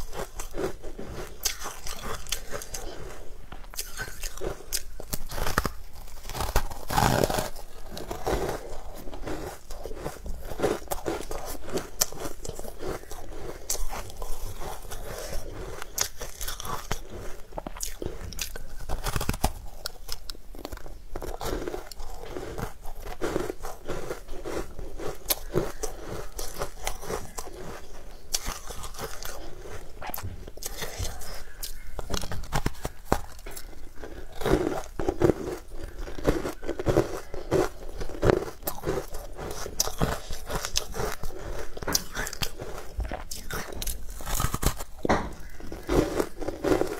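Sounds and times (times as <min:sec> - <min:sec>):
crunching and chewing ice: 0:00.0 - 0:46.9.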